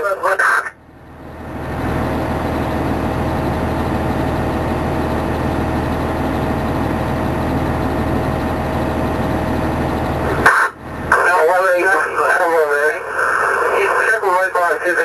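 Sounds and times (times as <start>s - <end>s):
diesel engine humming: 0.0s - 15.0s
faint steady whine: 0.0s - 15.0s.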